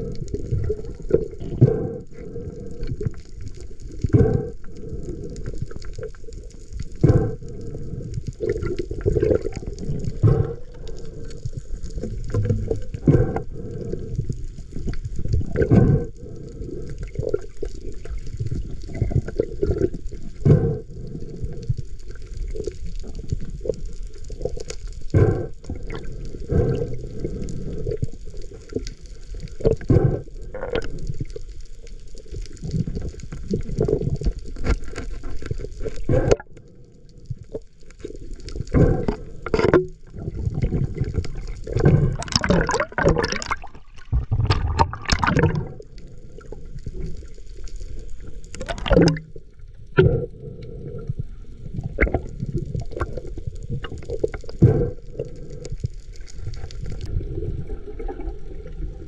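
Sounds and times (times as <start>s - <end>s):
muffled underwater rumble: 0.0s - 59.0s.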